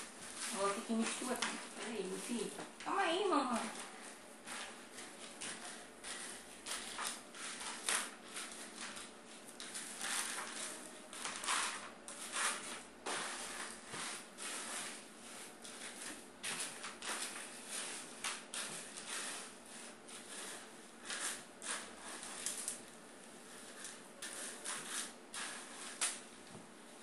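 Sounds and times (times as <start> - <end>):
scoop scraping through cat litter: 0.2 - 2.6, 3.3 - 26.3.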